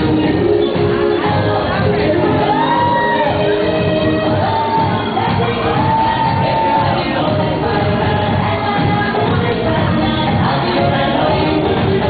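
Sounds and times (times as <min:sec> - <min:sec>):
loud dance music: 0:00.0 - 0:12.0.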